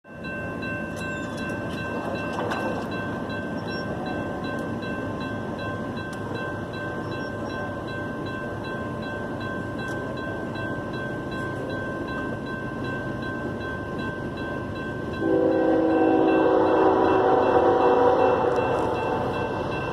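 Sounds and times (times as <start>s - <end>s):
diesel locomotive rumble: 0.1s - 19.9s.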